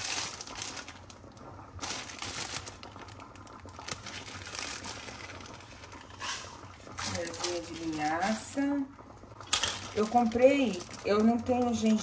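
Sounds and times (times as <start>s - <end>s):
plastic bag crinkling: 0.0s - 8.6s, 9.5s - 12.0s.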